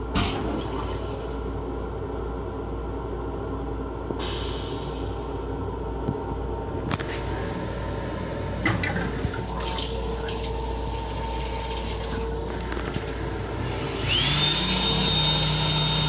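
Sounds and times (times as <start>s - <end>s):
train hum: 0.0s - 16.0s.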